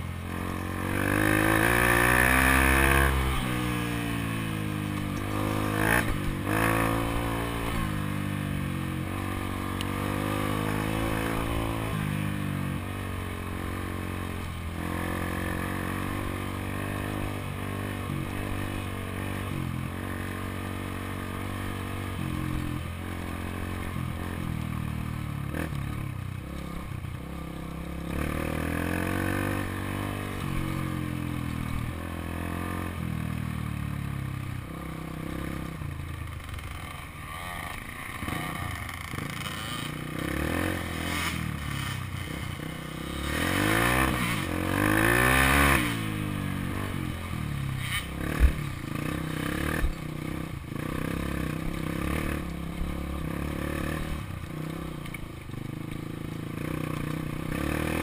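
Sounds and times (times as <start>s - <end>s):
dirt bike engine revving: 0.0s - 25.8s, 26.4s - 33.5s, 34.6s - 35.8s, 36.4s - 58.0s.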